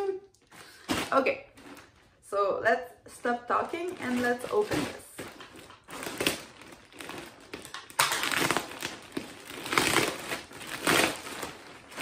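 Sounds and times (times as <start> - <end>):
shipping bag crinkling: 0.5 - 2.2, 3.5 - 12.0.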